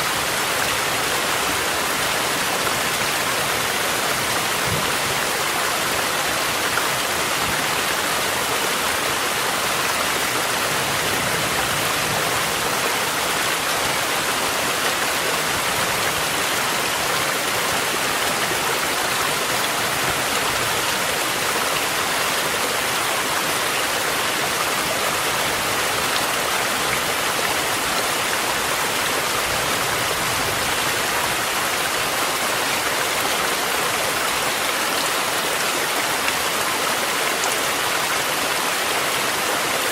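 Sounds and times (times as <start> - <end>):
mountain stream rushing: 0.0 - 39.9
rain falling: 0.0 - 39.9.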